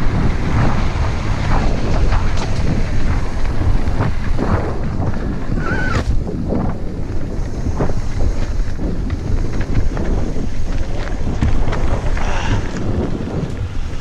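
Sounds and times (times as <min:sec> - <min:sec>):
bike rattling over rough trail: 0:00.0 - 0:14.0
wind buffeting microphone: 0:00.0 - 0:14.0.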